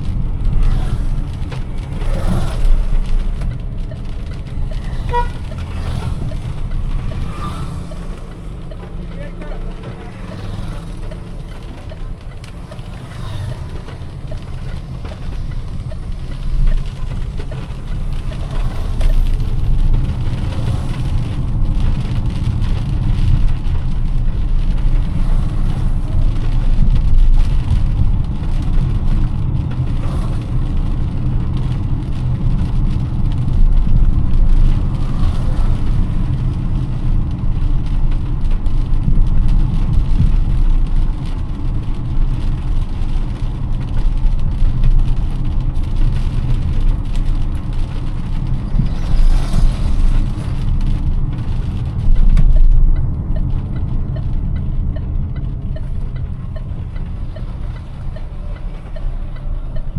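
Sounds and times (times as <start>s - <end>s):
car engine and road rumble: 0.0s - 59.9s
rain hissing: 0.0s - 59.9s.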